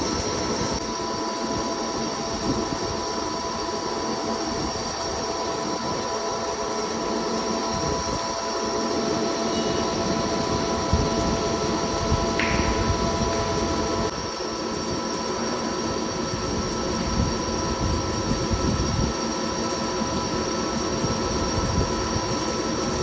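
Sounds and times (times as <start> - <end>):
lathe machine whining: 0.0 - 23.0.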